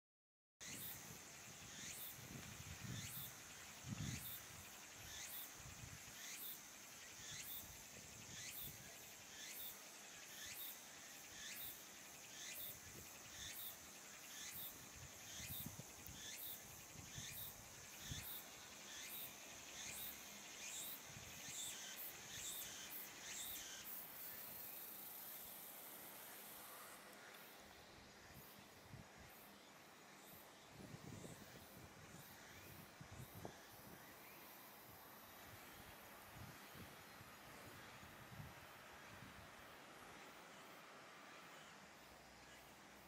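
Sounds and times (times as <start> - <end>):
steady hiss: 0.6 - 43.0.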